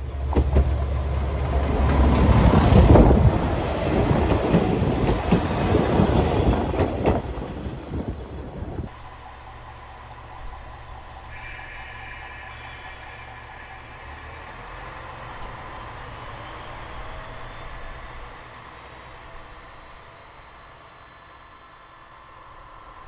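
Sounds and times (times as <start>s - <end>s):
diesel railcar engine running: 0.0s - 23.0s.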